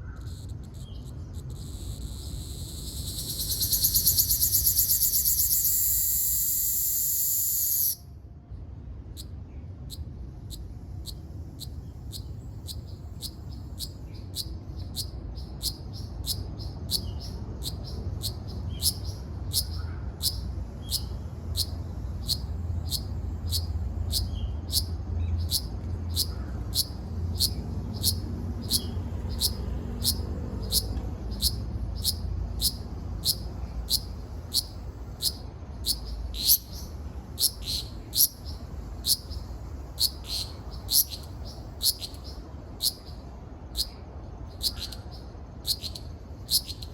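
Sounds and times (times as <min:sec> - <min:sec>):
cicada chirping: 0:00.0 - 0:08.2, 0:09.1 - 0:46.9
low steady rumble: 0:08.0 - 0:46.9.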